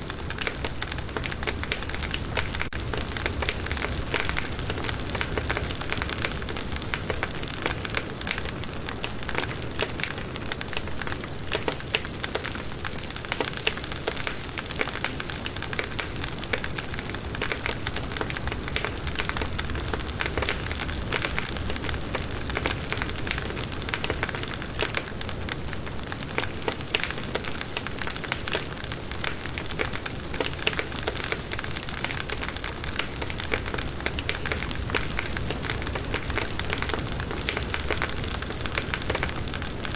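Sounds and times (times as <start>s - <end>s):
campfire crackling: 0.0s - 39.9s
low fire rumble: 0.0s - 39.9s.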